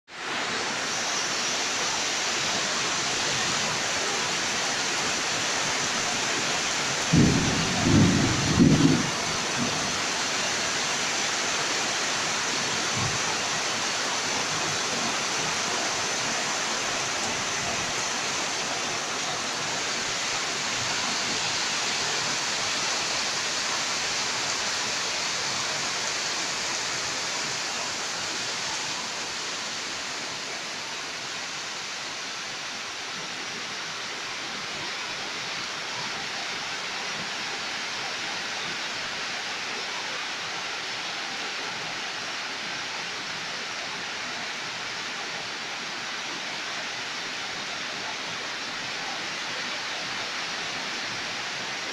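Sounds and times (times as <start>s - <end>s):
heavy rain downpour: 0.1s - 51.9s.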